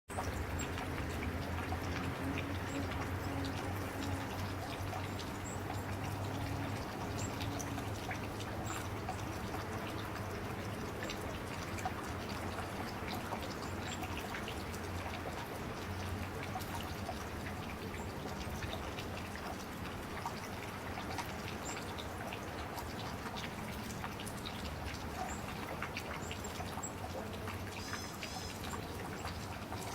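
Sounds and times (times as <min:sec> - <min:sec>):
small water splashes: 0:00.1 - 0:29.9
water trickling and dripping: 0:00.1 - 0:29.9.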